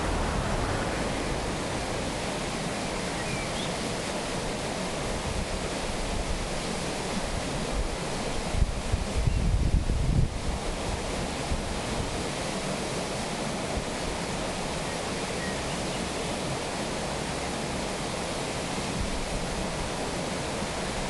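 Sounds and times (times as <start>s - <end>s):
water rushing at waterwheel: 0.0s - 21.0s.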